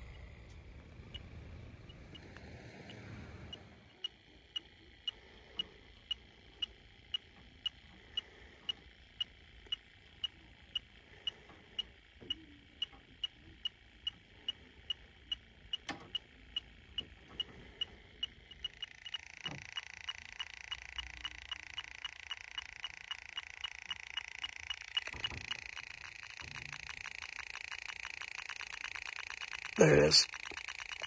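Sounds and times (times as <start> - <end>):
leak detector beeping: 0.0 - 31.0.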